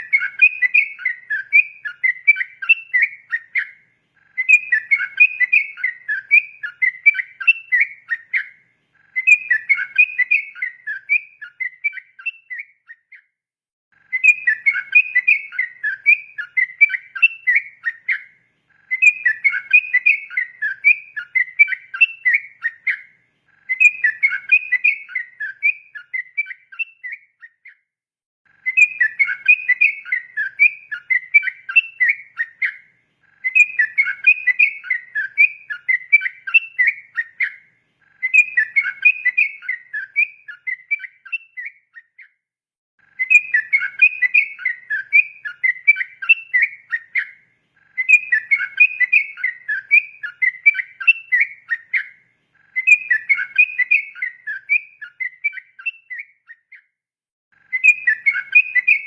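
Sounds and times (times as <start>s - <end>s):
bulbul singing bubbling song: 0.0s - 13.3s, 14.0s - 27.8s, 28.5s - 42.4s, 43.0s - 56.9s, 57.6s - 59.0s.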